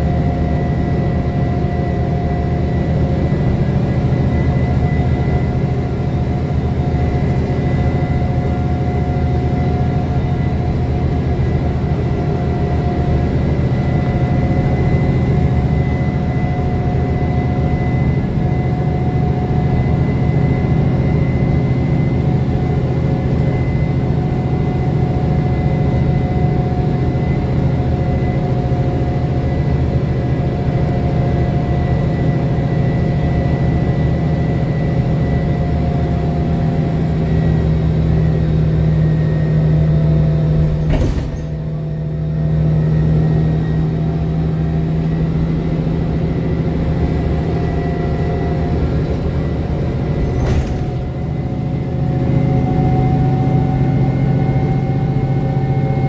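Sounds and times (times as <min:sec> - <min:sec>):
bus diesel engine rumble: 0:00.0 - 0:56.0
high engine whine: 0:00.0 - 0:56.0.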